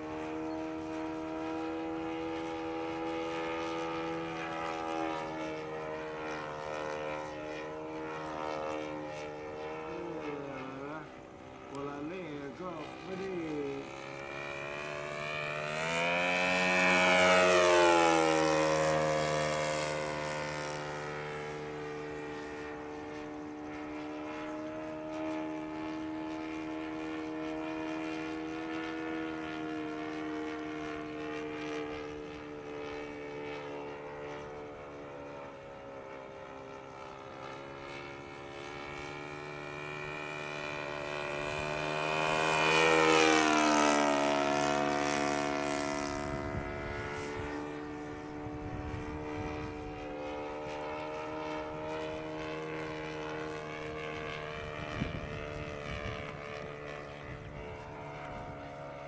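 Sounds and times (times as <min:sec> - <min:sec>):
model plane engine droning: 0:00.0 - 0:59.0.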